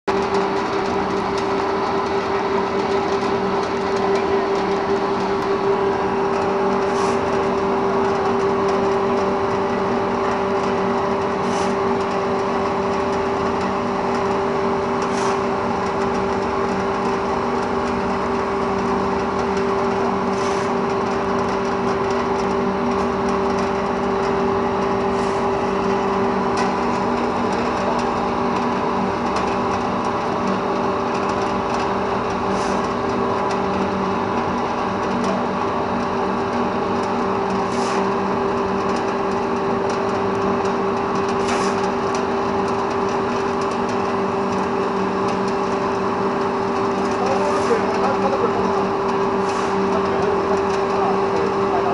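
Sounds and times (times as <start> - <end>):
pellet mill humming: 0.1 - 51.9.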